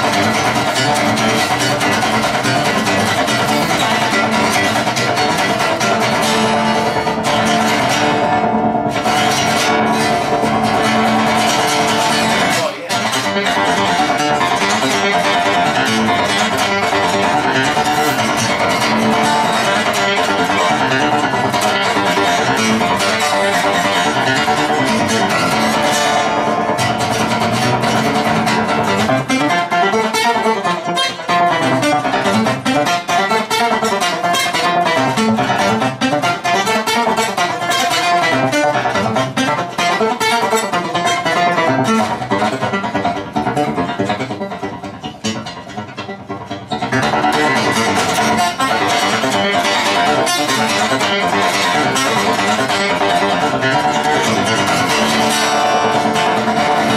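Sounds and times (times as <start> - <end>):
acoustic guitar: 0.0 - 56.9.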